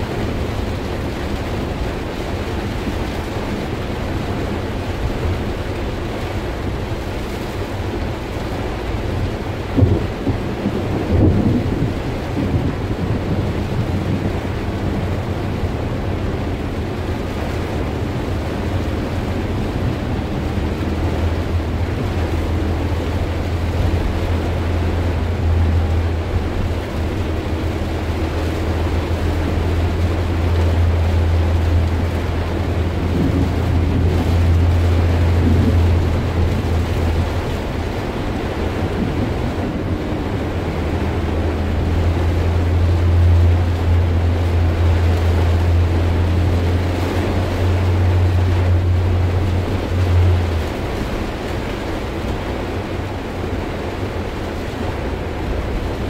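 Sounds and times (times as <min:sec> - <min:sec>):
heavy rain on car roof: 0:00.0 - 0:56.0
low car rumble: 0:00.0 - 0:56.0.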